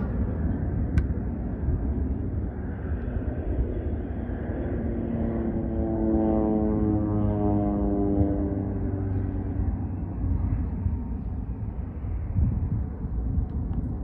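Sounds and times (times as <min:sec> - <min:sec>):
constant low rumble: 0:00.0 - 0:14.0
propeller plane droning overhead: 0:00.0 - 0:14.0.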